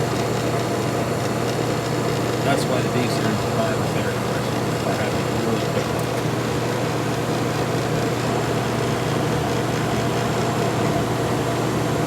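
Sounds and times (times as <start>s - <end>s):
air conditioner humming: 1.9s - 12.0s.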